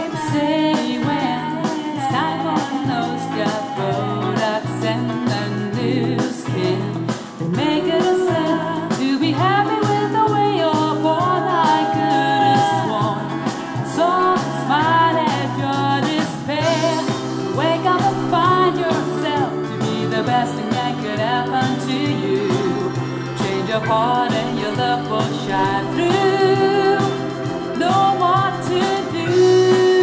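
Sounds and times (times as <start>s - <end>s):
pop song with lead vocal and band: 0.0s - 30.0s.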